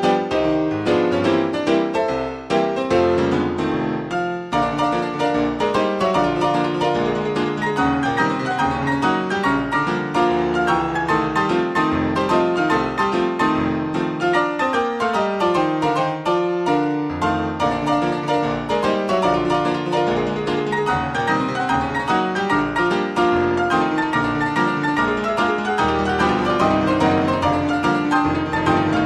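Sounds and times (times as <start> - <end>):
brisk solo piano: 0.0 - 29.0.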